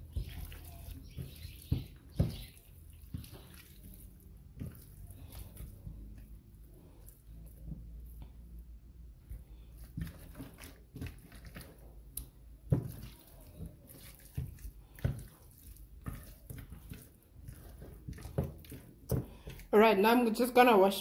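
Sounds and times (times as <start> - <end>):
hands squelching raw chicken: 0.0 - 19.7.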